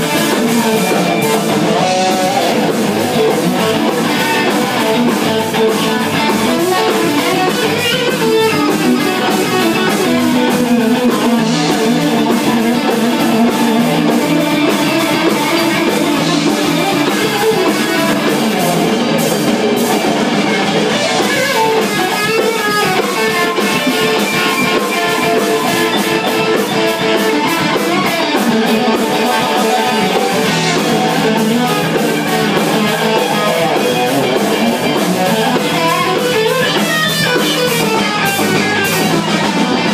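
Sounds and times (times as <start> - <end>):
guitars playing loudly: 0.0 - 39.9
rhythm section: 0.0 - 39.9.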